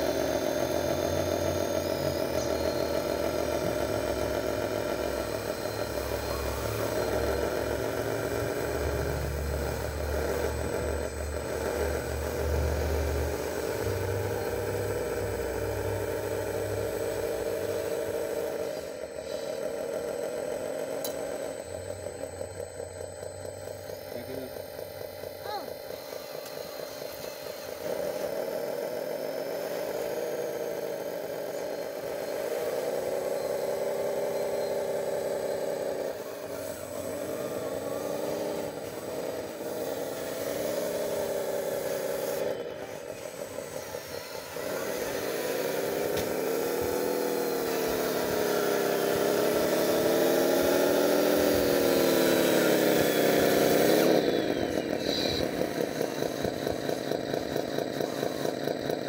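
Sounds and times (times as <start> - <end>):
model bulldozer motor running: 0.0 - 59.0.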